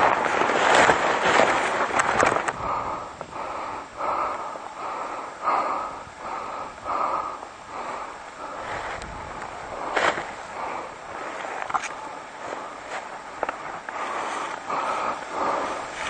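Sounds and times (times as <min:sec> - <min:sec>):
person breathing hard: 0:02.4 - 0:16.0.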